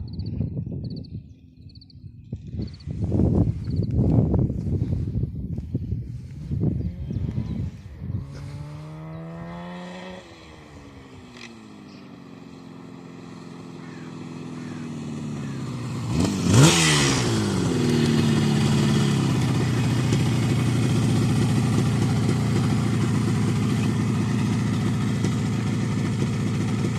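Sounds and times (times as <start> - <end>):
motorcycle engine approaching: 0.0 - 26.9.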